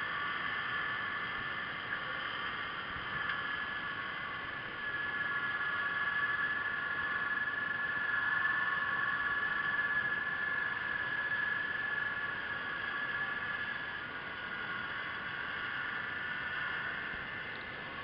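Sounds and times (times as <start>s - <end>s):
high-pitched electric motor whine: 0.0s - 18.0s
underwater hiss: 0.1s - 18.0s.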